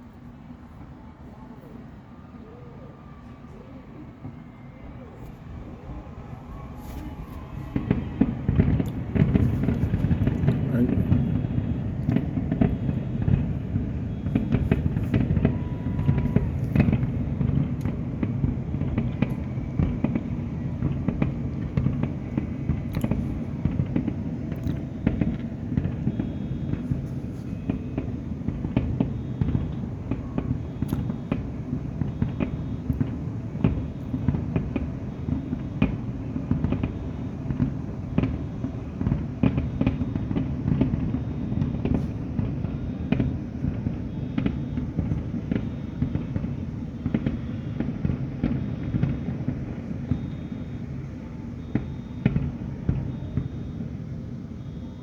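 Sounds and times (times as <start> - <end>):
fireworks low booms: 0.0 - 55.0
fireworks sharp cracks: 6.4 - 54.3.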